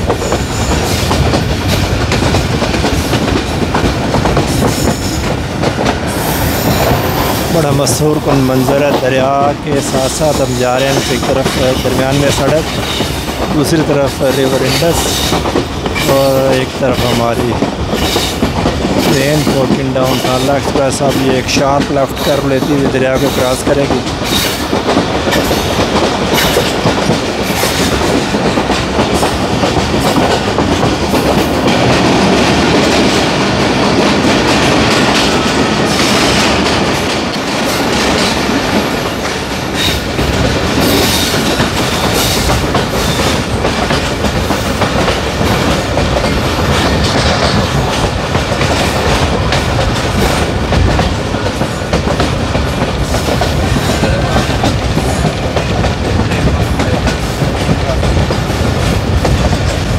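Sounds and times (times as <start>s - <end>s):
train rumble: 0.0s - 59.9s
wheels clicking over rail joints: 8.0s - 59.9s.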